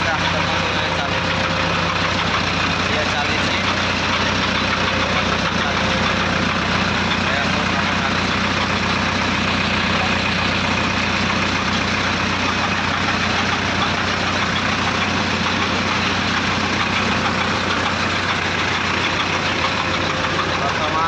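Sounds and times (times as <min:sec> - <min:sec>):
drilling rig mechanical din: 0:00.0 - 0:21.0
low engine hum: 0:00.0 - 0:21.0.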